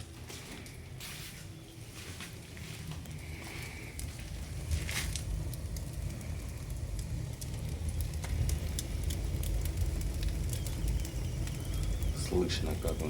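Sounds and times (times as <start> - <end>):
fire crackles: 0.0 - 13.0
wood fire draught rumble: 0.0 - 13.0.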